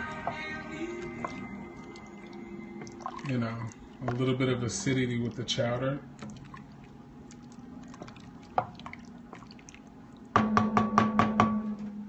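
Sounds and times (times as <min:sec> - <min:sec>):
spatula stirring soup in pot: 0:00.0 - 0:10.4.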